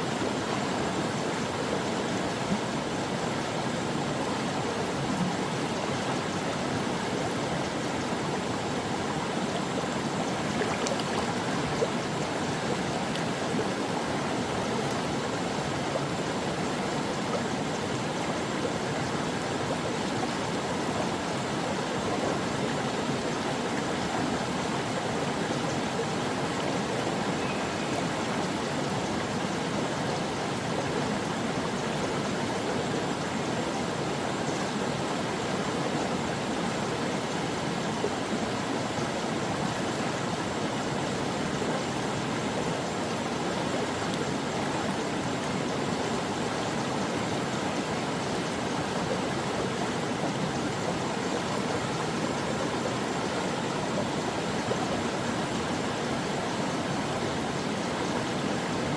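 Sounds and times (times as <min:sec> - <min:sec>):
stream flowing over rocks: 0:00.0 - 0:58.9.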